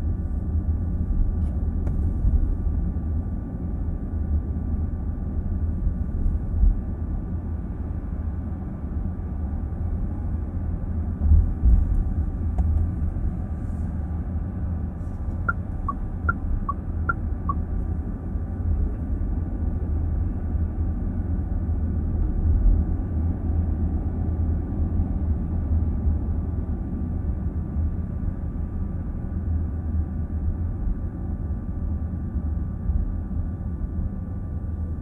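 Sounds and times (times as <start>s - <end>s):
car road and tyre rumble: 0.0s - 35.0s.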